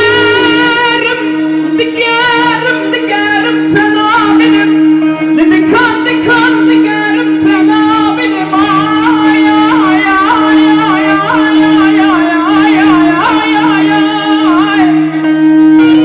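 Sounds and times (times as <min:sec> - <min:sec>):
person singing ornamented phrases: 0:00.0 - 0:16.0.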